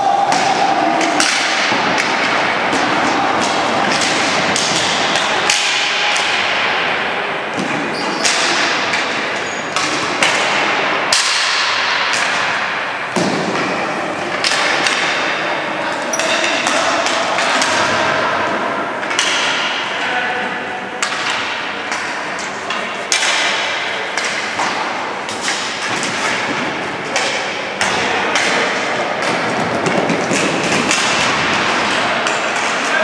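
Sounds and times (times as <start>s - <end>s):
sticks striking ball and floor: 0.3s - 7.0s, 7.6s - 20.0s, 21.0s - 33.0s.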